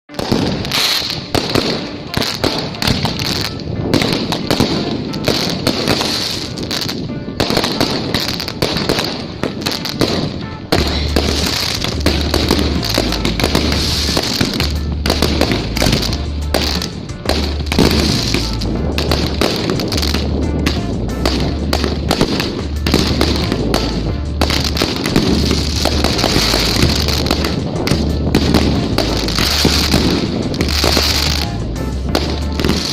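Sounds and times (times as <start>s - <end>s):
fireworks cracking and banging: 0.0s - 32.9s
music with heavy bass: 0.1s - 32.9s.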